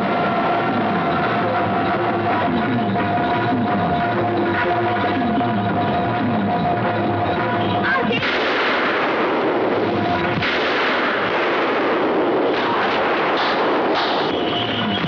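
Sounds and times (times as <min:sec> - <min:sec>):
rapid gunfire: 0:00.0 - 0:15.0.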